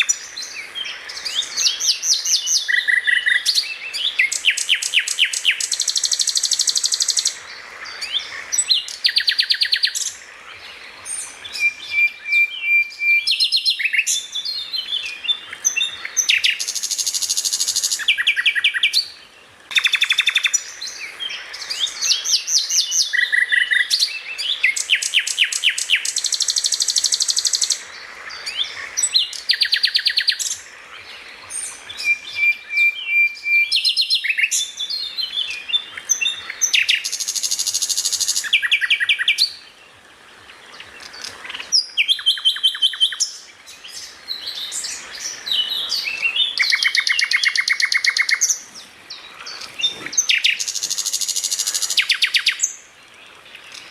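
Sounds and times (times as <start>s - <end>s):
songbird trilling and chirping: 0.0s - 10.2s, 11.0s - 39.7s, 40.8s - 53.9s.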